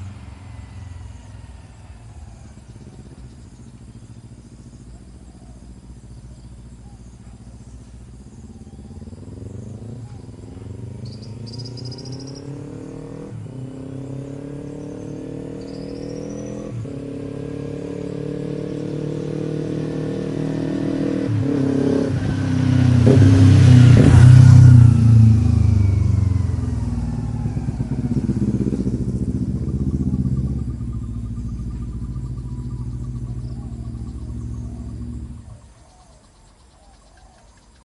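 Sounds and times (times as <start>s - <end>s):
motorcycle accelerating past: 0.0s - 37.6s.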